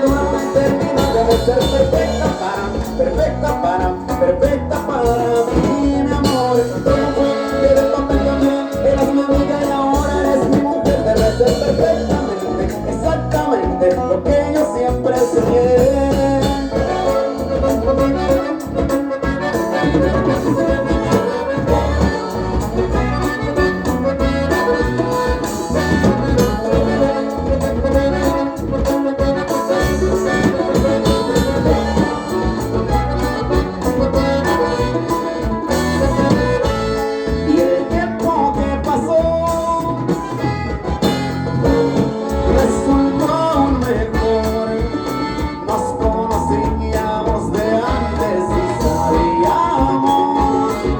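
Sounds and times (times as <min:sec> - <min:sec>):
live band playing latin music: 0:00.0 - 0:50.9
steady bass line: 0:00.0 - 0:50.9.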